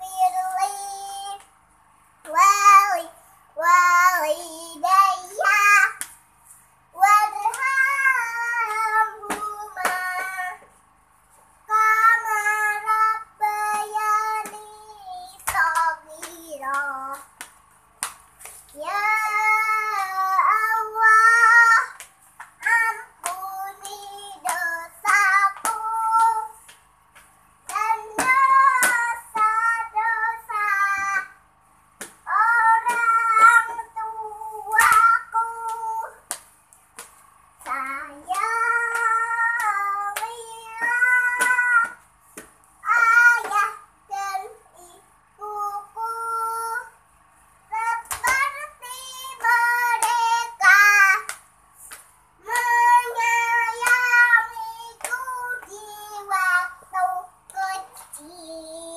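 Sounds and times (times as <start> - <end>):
girl singing: 0.0 - 6.1, 6.8 - 10.7, 11.6 - 17.4, 18.6 - 22.0, 22.6 - 26.7, 27.6 - 31.4, 32.1 - 36.4, 37.6 - 42.1, 42.8 - 47.0, 47.7 - 51.3, 52.4 - 58.9.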